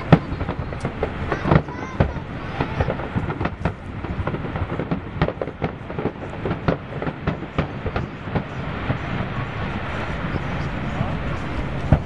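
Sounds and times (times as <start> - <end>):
fireworks bursting: 0.0 - 12.0
low rumble: 0.0 - 12.0.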